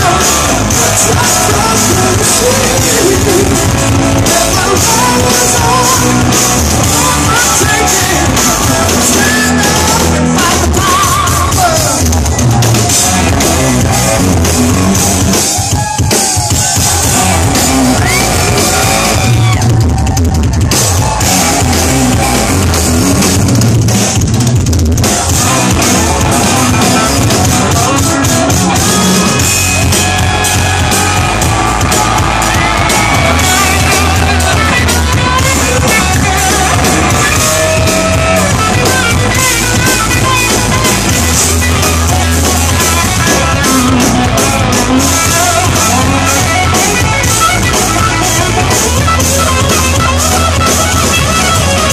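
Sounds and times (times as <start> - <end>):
bass guitar: 0.0 - 51.9
drum kit: 0.0 - 51.9
electric guitar: 0.0 - 51.9.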